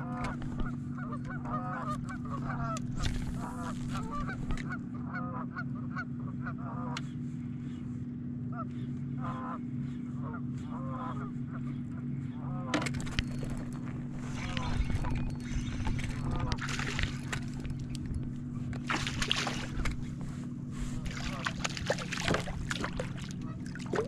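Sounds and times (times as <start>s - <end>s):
geese honking: 0.0s - 7.1s, 8.5s - 24.0s
steady low hum: 0.0s - 24.0s.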